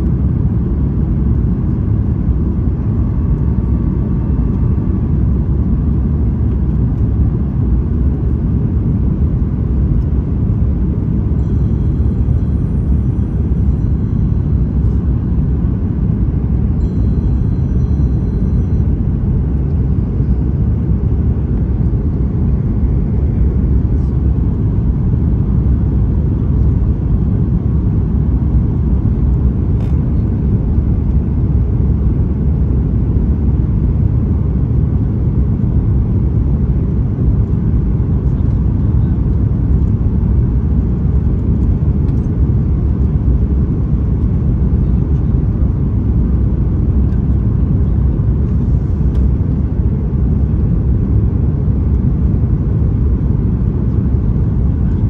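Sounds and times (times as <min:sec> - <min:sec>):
airliner engine rumble: 0:00.0 - 0:55.0.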